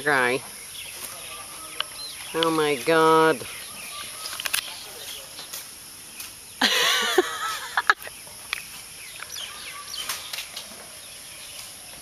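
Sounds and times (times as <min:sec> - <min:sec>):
faint bird chirps: 0:00.2 - 0:12.0.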